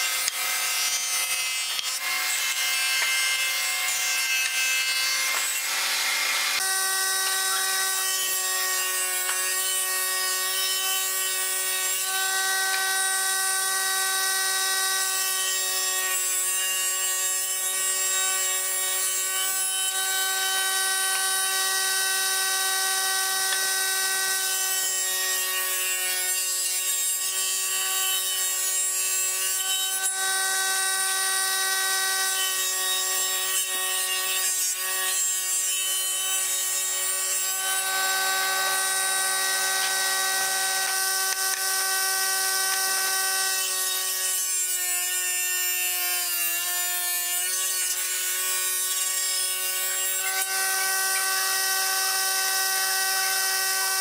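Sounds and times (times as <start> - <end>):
table saw cutting wood: 0.0 - 54.0.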